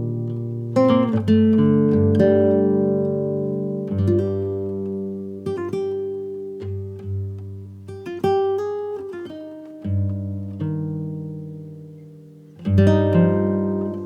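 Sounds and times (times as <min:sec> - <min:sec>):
slow plucked acoustic guitar: 0:00.0 - 0:14.0.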